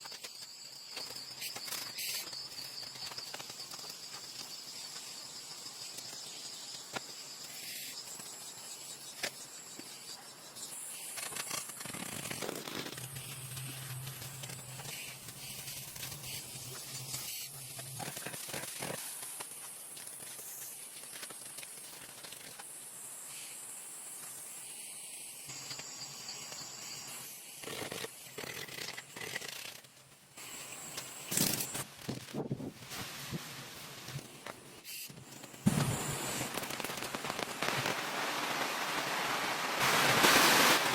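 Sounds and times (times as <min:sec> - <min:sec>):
insects buzzing: 0:00.0 - 0:31.9, 0:33.9 - 0:40.9.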